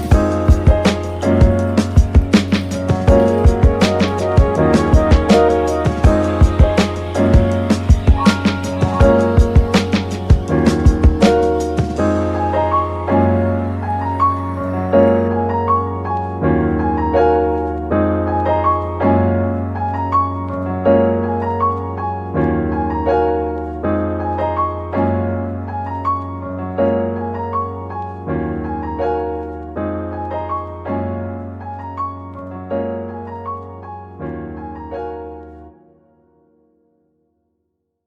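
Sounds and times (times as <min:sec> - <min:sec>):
piano instrumental music: 0:00.0 - 0:36.6.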